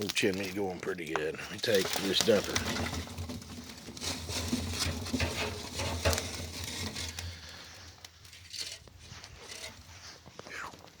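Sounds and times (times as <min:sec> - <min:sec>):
charcoal clattering and crackling: 0:00.0 - 0:11.0.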